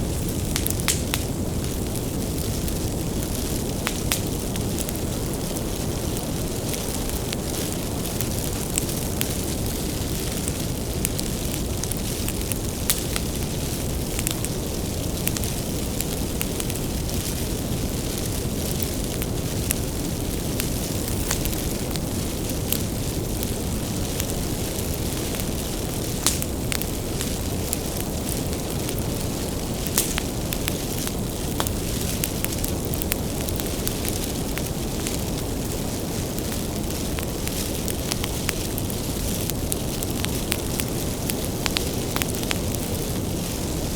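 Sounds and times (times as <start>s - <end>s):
burning wood crackling and popping: 0.0s - 43.9s
roar of flames: 0.0s - 43.9s.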